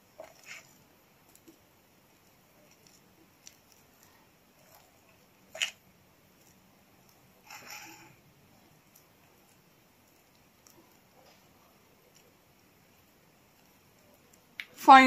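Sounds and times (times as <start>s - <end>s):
hands squishing wet paste: 0.0s - 14.8s.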